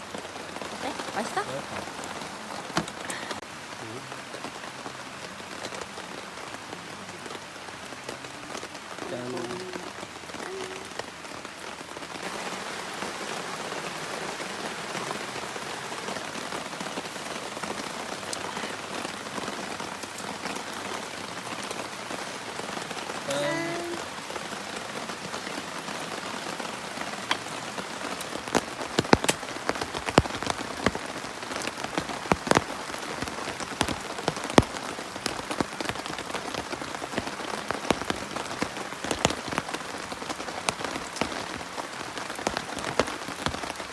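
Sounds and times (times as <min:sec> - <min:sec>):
heavy rain: 0:00.0 - 0:43.9
loud raindrops striking surface: 0:00.0 - 0:43.9.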